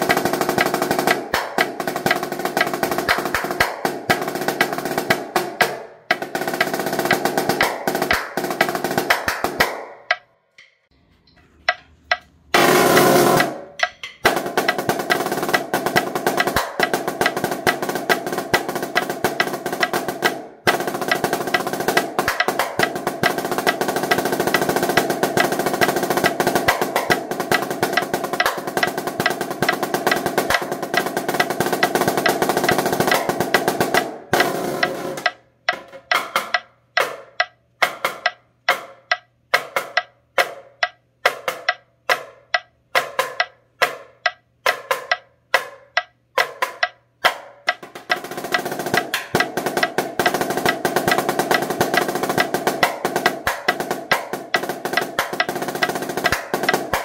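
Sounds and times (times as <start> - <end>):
snare drum rolls and strokes: 0.0 - 57.0.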